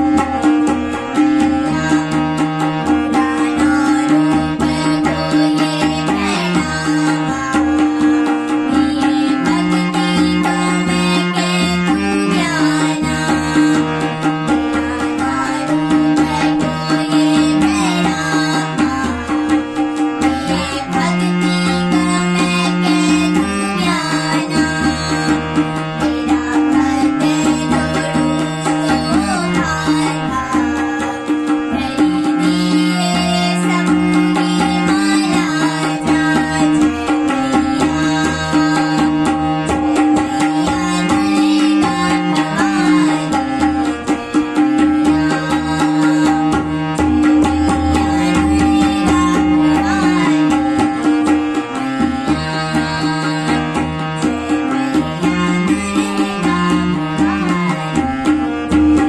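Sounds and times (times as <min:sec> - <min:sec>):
girl singing: 0:00.0 - 0:59.0
harmonium held note: 0:00.0 - 0:59.0
tabla strokes: 0:00.0 - 0:59.0.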